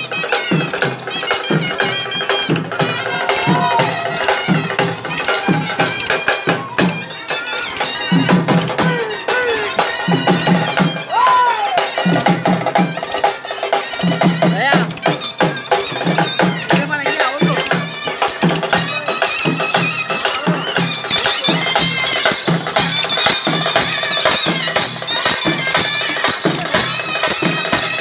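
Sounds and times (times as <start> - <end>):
high wavering melody: 0.0 - 24.2
drums beaten with sticks: 0.0 - 28.0.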